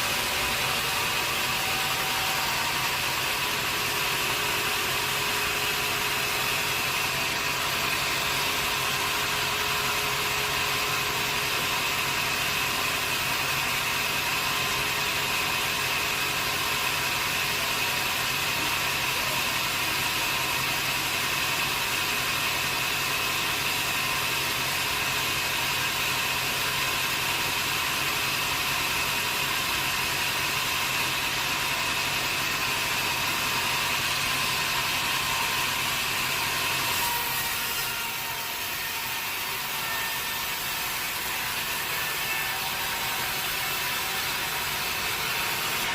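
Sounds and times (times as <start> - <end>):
sawmill machinery running: 0.0 - 45.9.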